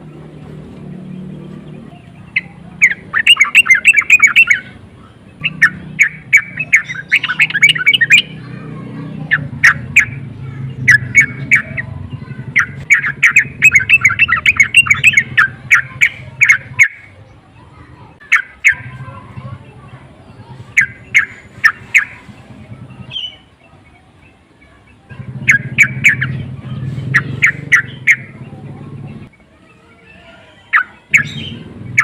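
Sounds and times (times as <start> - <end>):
bulbul singing chattering notes: 0.0 - 30.0, 30.6 - 32.0.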